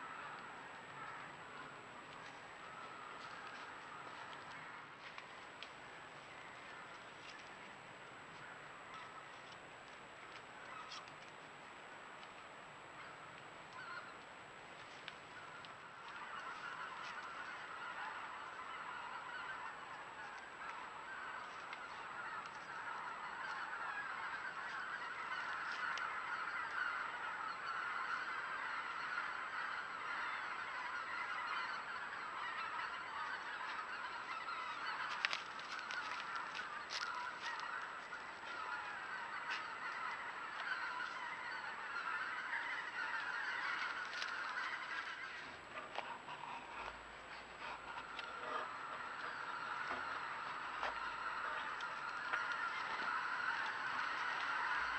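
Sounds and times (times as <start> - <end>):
flock of geese honking: 0.0 - 54.9.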